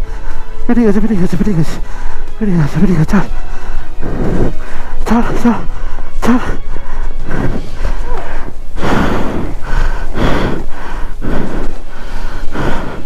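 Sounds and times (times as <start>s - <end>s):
heavy breathing: 0.0s - 13.0s.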